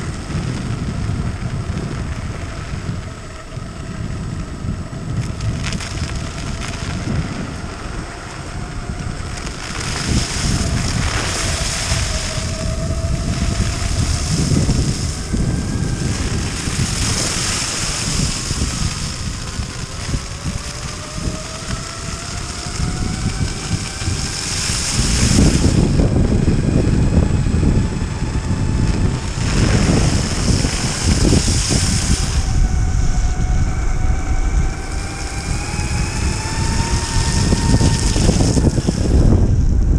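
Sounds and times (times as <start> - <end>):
electric motors whining: 0.0 - 39.9
wheels rumbling over snow and ice: 0.0 - 39.9
wind buffeting microphone: 0.0 - 39.9.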